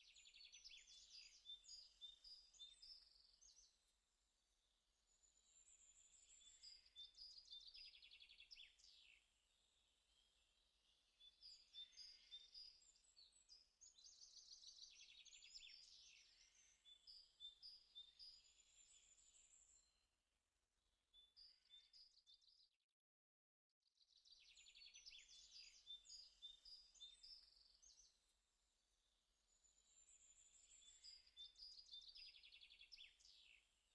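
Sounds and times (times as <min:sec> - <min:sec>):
faint birdsong with trills: 0:00.0 - 0:20.1, 0:21.1 - 0:22.7, 0:23.9 - 0:33.9.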